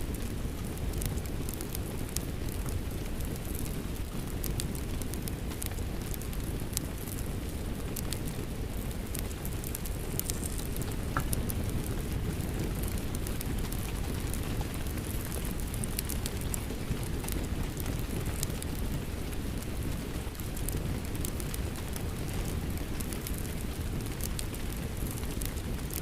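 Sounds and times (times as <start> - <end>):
rain falling steadily: 0.0 - 26.0
wood fire crackling and popping: 0.0 - 26.0.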